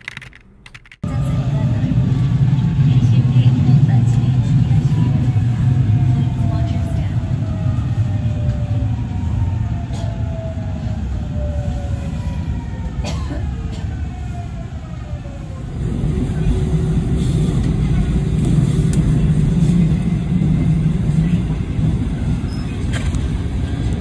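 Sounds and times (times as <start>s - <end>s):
train wheels rumbling on track: 1.0s - 24.0s.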